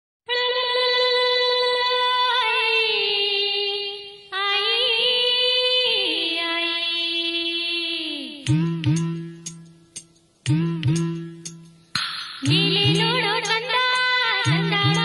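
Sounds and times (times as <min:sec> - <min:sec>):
high voice singing with vibrato: 0:00.3 - 0:09.6, 0:10.5 - 0:11.7, 0:12.4 - 0:15.0.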